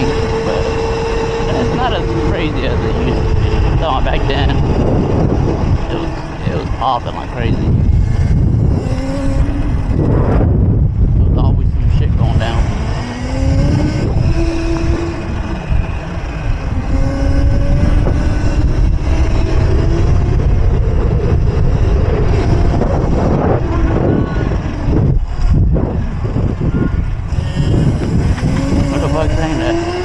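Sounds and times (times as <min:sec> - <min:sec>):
electric motor whine: 0:00.0 - 0:30.0
wind rumble on microphone: 0:00.0 - 0:30.0.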